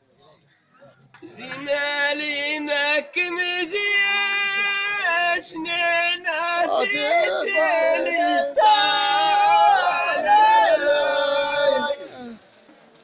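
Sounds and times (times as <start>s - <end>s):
man singing long high notes: 1.2s - 12.4s.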